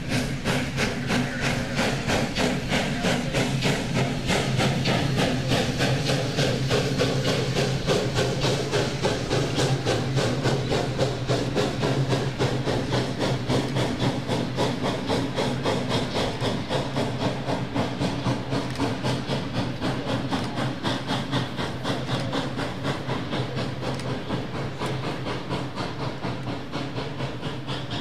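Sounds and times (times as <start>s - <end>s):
steam hiss: 0.0s - 28.0s
steam locomotive chuffing: 0.0s - 28.0s.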